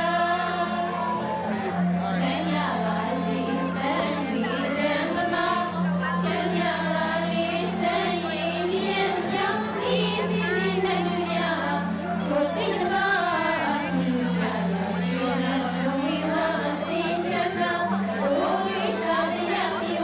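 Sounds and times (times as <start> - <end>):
two women singing: 0.0 - 20.0.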